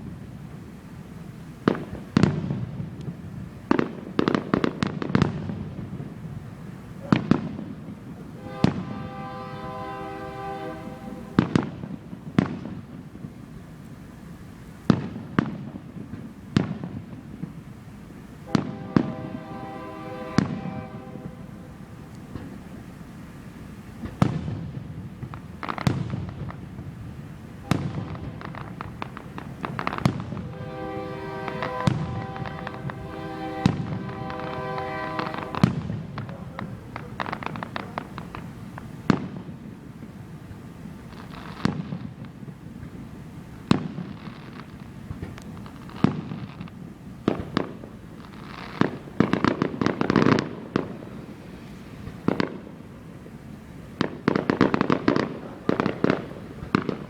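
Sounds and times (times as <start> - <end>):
crackling firework bursts: 0.0 - 57.0
fireworks booming with echo: 0.0 - 57.0.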